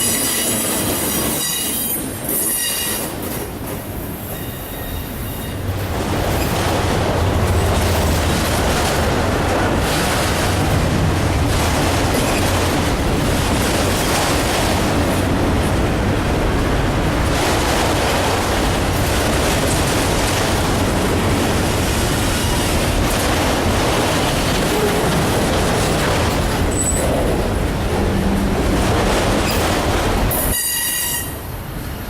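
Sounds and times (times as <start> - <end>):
train wheels rushing on rail: 0.0 - 32.0.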